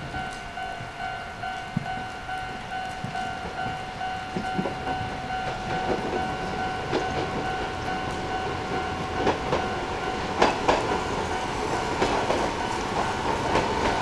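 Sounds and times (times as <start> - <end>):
train wheel clicks: 0.0 - 14.0.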